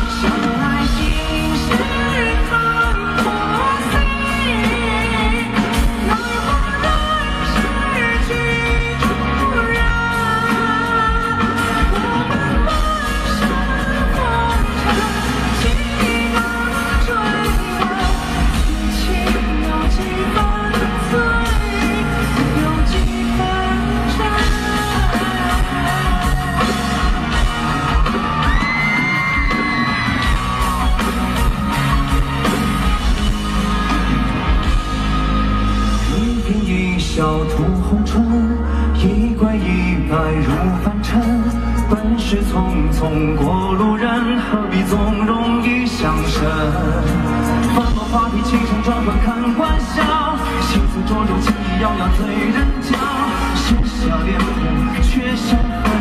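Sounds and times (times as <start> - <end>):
live pop-rock band: 0.0 - 56.0
man singing lead vocals: 0.0 - 56.0.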